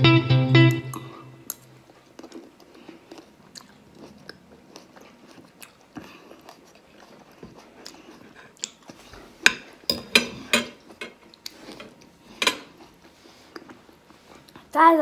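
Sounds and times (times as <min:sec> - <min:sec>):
child chewing: 0:00.9 - 0:14.7.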